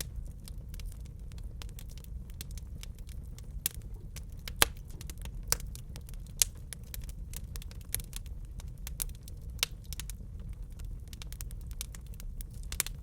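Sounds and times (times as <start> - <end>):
low steady rumble: 0.0 - 13.0
wood fire crackling: 0.0 - 13.0.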